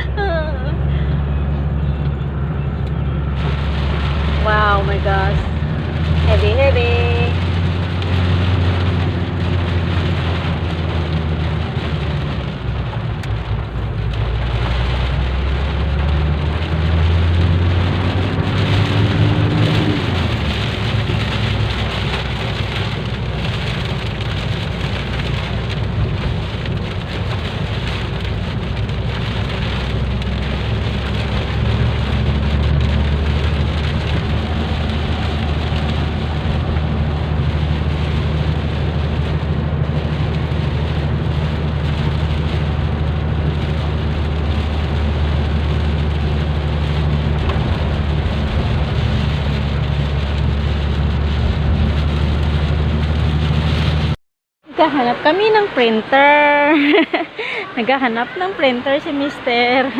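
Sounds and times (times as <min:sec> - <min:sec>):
car engine running: 0:00.0 - 0:59.9
heavy rain pelting a car: 0:00.0 - 0:59.9.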